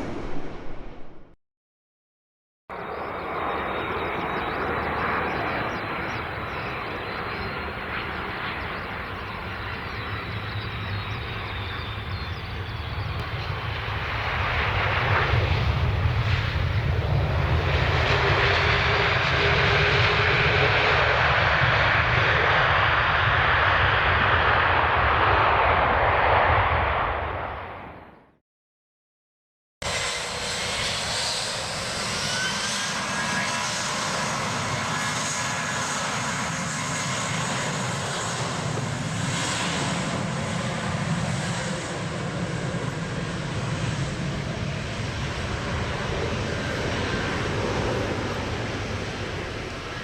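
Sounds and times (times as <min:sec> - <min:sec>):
jet engine rushing and rumbling: 0:00.0 - 0:01.4, 0:02.7 - 0:28.4, 0:29.8 - 0:50.0.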